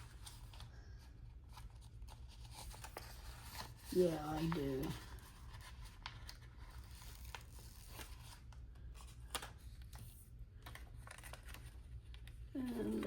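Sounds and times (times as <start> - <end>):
room hum: 0.0 - 13.0
sticker sheets rustling: 1.4 - 13.0.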